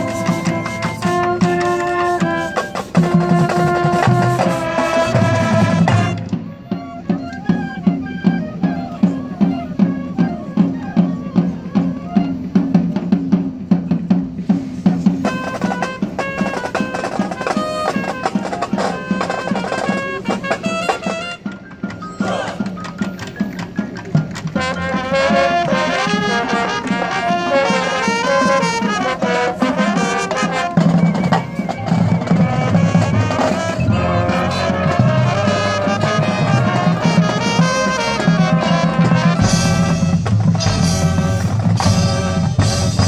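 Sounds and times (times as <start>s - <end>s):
marching band playing: 0.0s - 43.0s.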